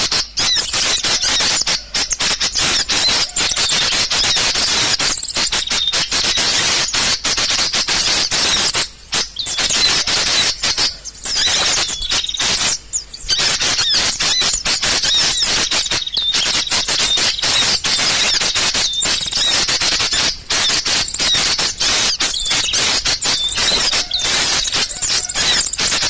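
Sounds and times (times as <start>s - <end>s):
bird lure call chatter: 0.0s - 26.0s.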